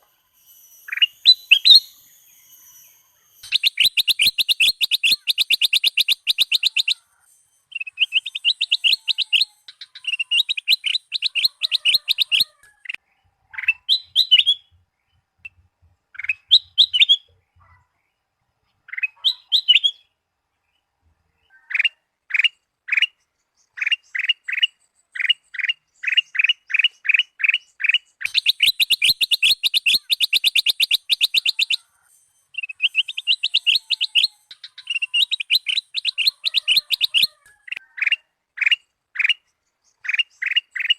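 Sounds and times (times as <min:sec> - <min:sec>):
bird chirping and trilling: 0:00.0 - 0:15.2, 0:16.1 - 0:17.8, 0:18.7 - 0:20.2, 0:21.4 - 0:40.9.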